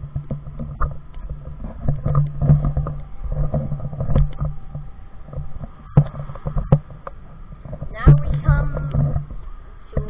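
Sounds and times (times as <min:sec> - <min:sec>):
sharp knocks and clicks: 0:00.0 - 0:10.0.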